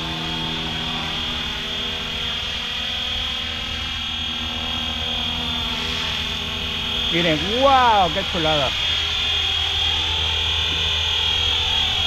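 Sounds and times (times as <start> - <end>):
low hum: 0.0 - 12.0
rc helicopter rotor whine: 0.0 - 12.0.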